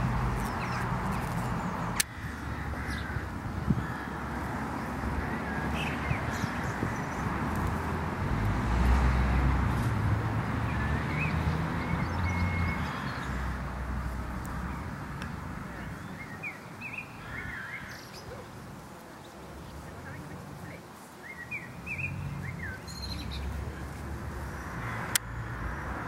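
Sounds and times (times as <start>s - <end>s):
small birds chirping: 0.0s - 8.0s, 9.3s - 26.0s.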